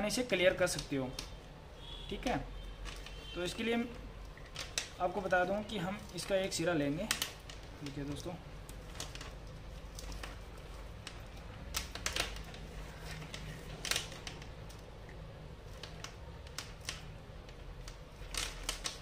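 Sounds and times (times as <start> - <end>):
plastic light string rattling: 0.0 - 19.0.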